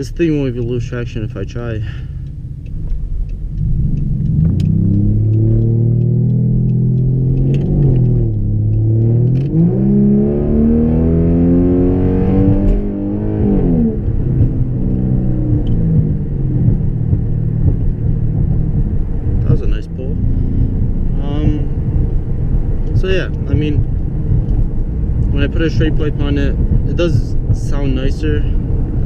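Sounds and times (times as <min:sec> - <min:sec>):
car exhaust under hard acceleration: 0:00.0 - 0:29.0.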